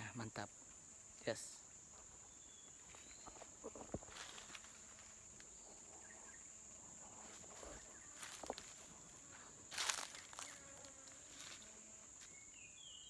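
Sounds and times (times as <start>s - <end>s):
high-pitched insect drone: 2.3s - 13.0s.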